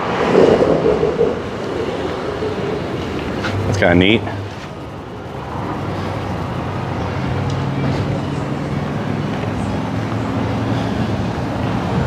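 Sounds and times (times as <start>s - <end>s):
street noise: 0.0s - 12.0s
vehicle engine running: 1.7s - 12.0s.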